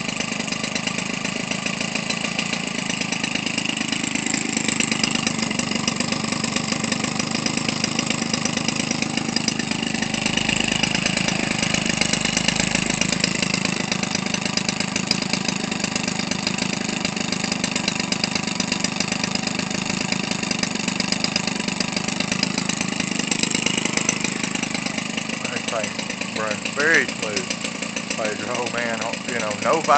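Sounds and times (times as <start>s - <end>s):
small two-stroke engine idling: 0.0s - 29.9s.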